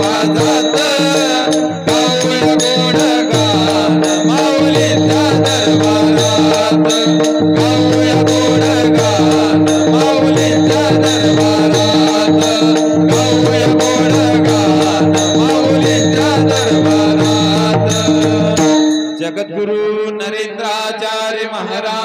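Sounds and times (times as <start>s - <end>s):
steady drone: 0.0s - 19.2s
small hand cymbals: 0.0s - 19.3s
barrel drum rhythm: 0.0s - 19.4s
devotional music: 0.0s - 21.2s.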